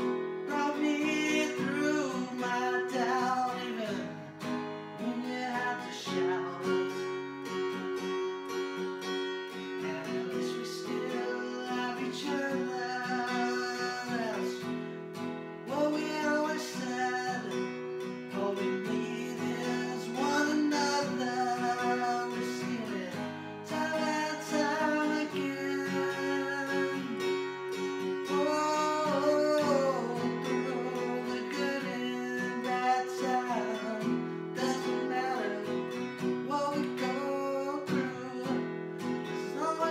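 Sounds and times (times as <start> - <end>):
man singing: 0.0 - 7.6, 9.6 - 14.9, 15.6 - 39.9
acoustic guitar strumming: 0.0 - 39.9.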